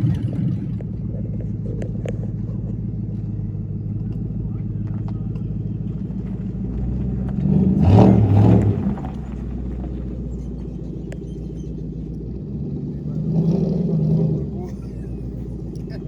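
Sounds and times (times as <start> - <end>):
car engine running and revving: 0.0 - 16.0.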